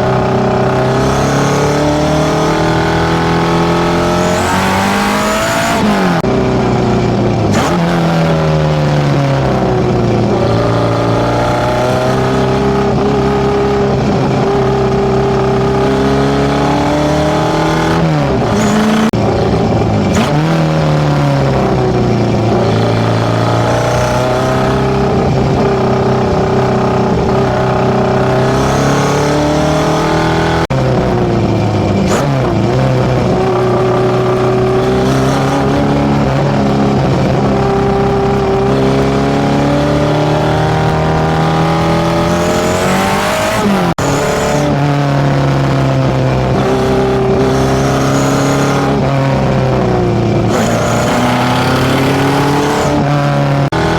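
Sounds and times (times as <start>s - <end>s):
car engine running loud: 0.0s - 53.9s.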